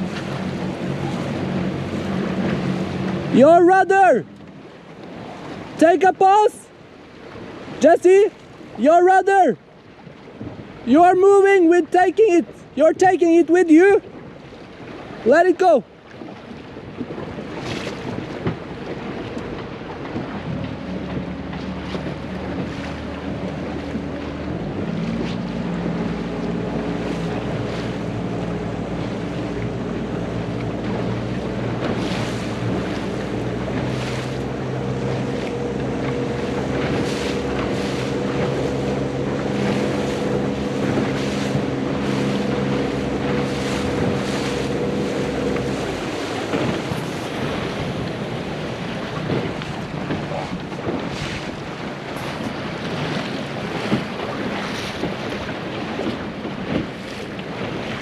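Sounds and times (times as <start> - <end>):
wind buffeting microphone: 0.0 - 5.8, 16.2 - 58.0
outboard engine running: 0.0 - 58.0
water splashing against hull: 0.0 - 58.0.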